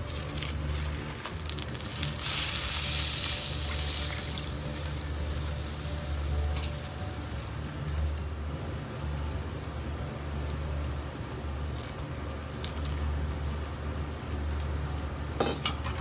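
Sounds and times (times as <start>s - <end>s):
broth boiling in a pan: 0.0s - 16.0s.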